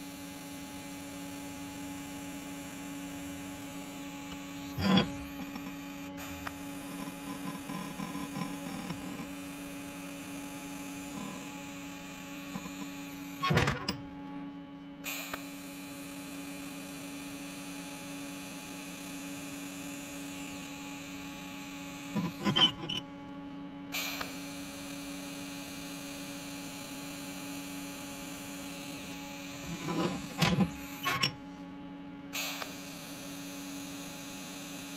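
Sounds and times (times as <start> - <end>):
welder humming: 0.0 - 14.0, 15.1 - 23.0, 23.9 - 31.4.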